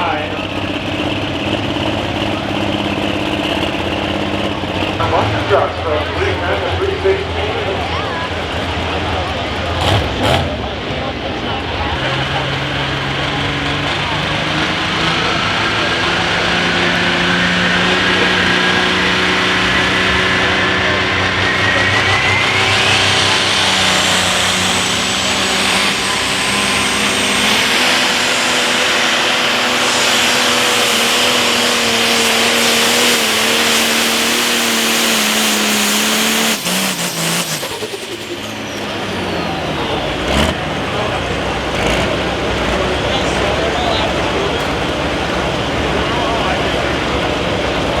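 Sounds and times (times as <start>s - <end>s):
diesel tractor engine at full throttle: 0.0s - 48.0s
high turbo whine: 0.0s - 48.0s.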